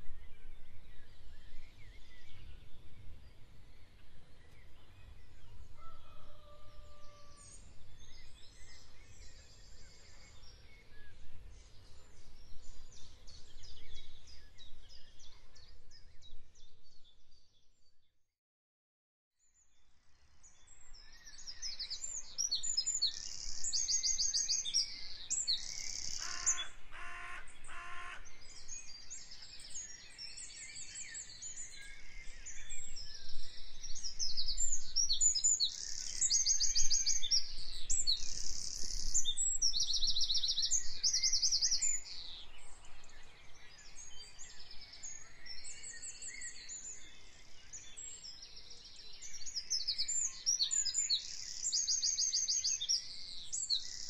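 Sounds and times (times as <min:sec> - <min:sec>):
songbirds chirping and trilling: 0:00.0 - 0:18.1, 0:19.4 - 0:54.0.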